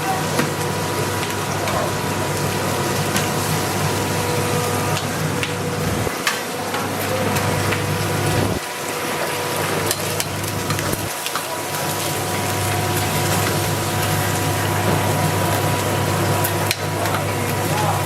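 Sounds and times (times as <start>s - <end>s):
frying hiss: 0.0s - 18.0s
low machine hum: 0.0s - 18.0s.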